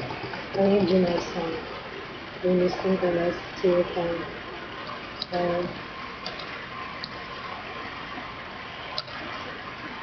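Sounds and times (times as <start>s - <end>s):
room and microphone hiss: 0.0s - 10.0s.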